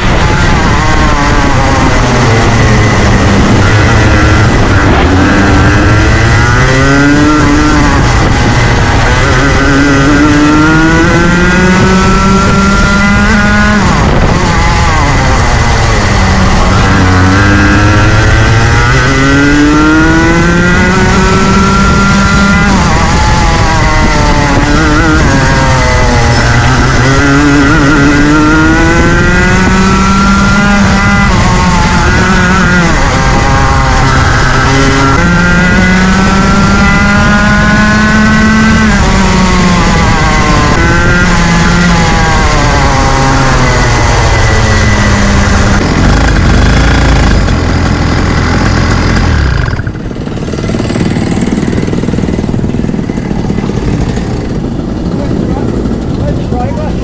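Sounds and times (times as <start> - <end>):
kart engine accelerating: 0.0 - 57.0
lower steady engine note: 0.0 - 57.0.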